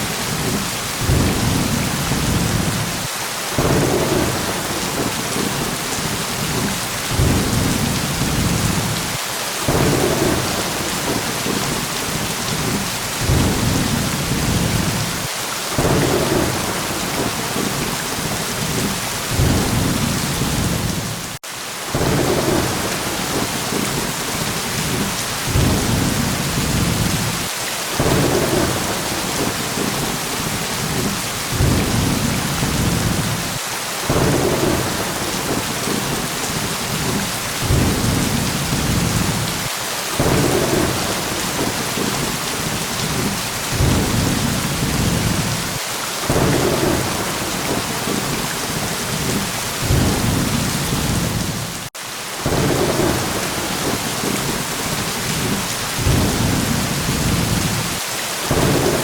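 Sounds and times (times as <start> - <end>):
steady rain hiss: 0.0 - 59.0
low rolling thunder: 0.3 - 3.0, 3.6 - 9.1, 9.7 - 21.4, 22.0 - 39.6, 40.2 - 51.7, 52.4 - 54.6, 55.2 - 59.0.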